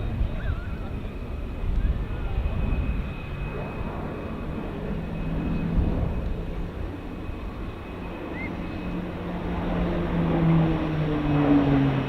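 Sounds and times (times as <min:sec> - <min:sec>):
turboprop aircraft propeller drone: 0:00.0 - 0:12.0.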